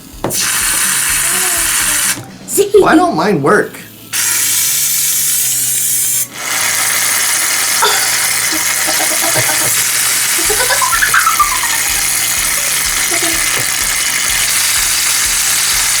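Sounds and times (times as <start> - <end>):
aerosol can spraying hiss: 0.3 - 2.3, 4.1 - 16.0.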